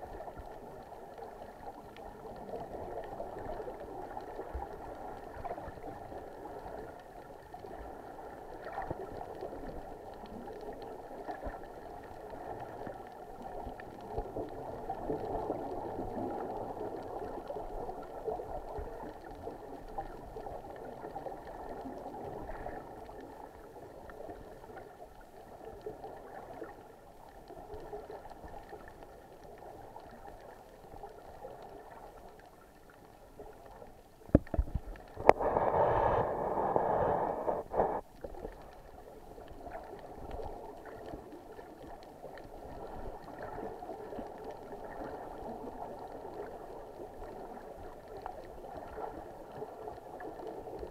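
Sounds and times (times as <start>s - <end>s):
underwater bubbles gurgling: 0.0s - 50.9s.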